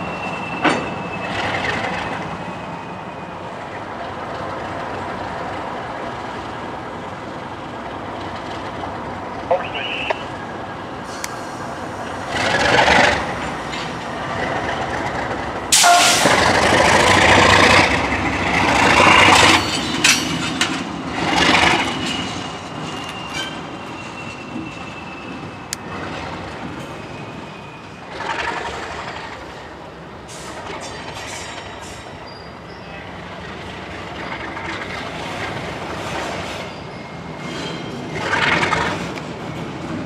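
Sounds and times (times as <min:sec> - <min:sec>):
diesel locomotive running: 0:00.0 - 0:40.0.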